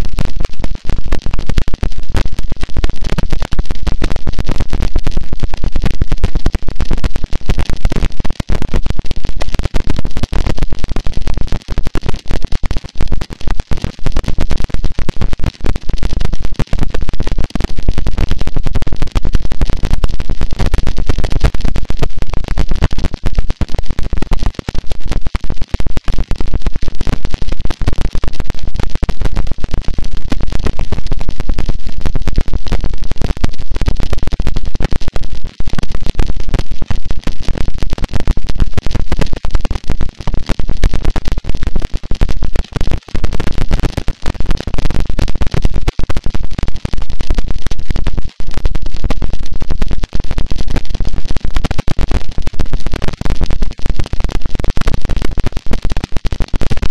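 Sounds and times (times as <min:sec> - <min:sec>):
harsh distorted static noise: 0:00.0 - 0:56.9.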